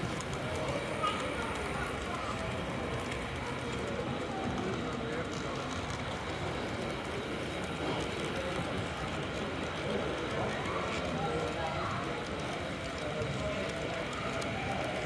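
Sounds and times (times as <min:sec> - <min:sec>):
model train running on track: 0:00.0 - 0:15.0
murmur of crowd voices: 0:00.0 - 0:15.0.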